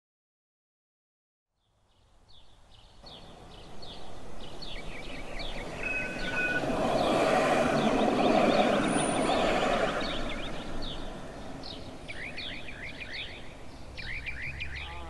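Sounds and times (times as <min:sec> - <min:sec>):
small birds chirping: 0:01.6 - 0:15.0
traffic noise: 0:02.1 - 0:15.0.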